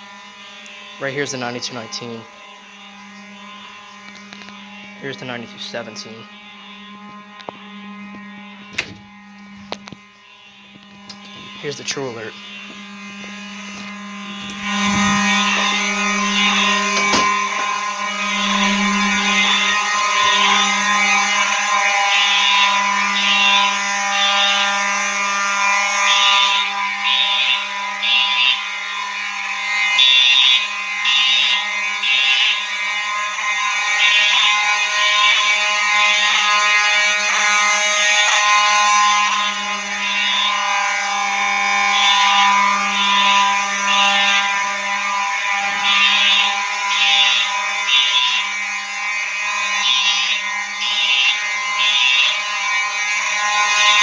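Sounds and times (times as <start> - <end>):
fire alarm horn buzzing: 0.0 - 54.0
fire alarm horns pulsing: 0.0 - 54.0.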